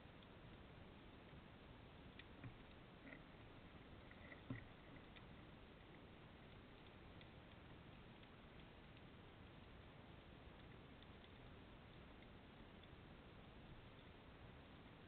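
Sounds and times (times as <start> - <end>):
soft clicks: 2.1 - 14.4.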